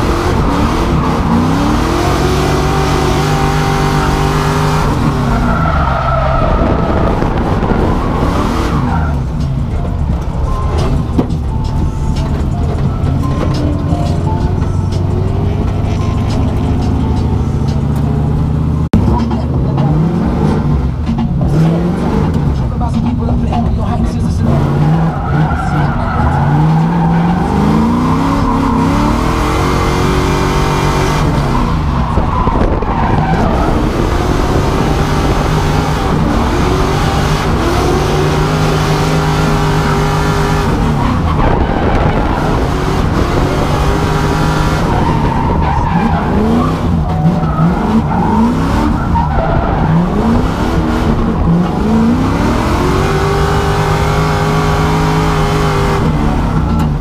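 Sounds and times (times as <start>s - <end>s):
car engine revving: 0.0s - 57.0s
tyres skidding and squealing: 0.0s - 57.0s.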